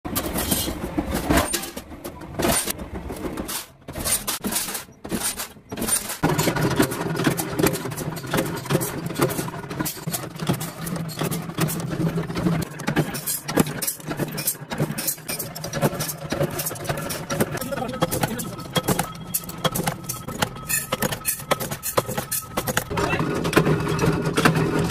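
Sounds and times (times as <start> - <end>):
machine clatter: 0.1 - 24.9
sharp metal knocks and clanks: 0.1 - 24.9.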